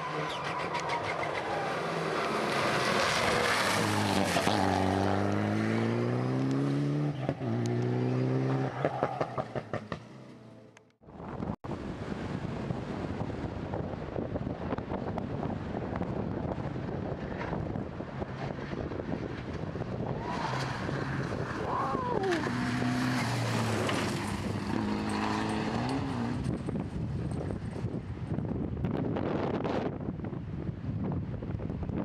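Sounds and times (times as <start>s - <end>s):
rally car engine at full speed: 0.0s - 10.8s, 11.7s - 30.0s.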